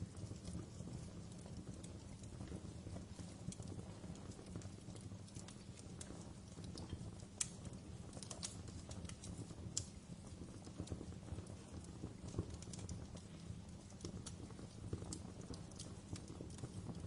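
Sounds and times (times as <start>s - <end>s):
fire low rumble: 0.0s - 17.0s
wood fire crackling and popping: 0.0s - 17.0s.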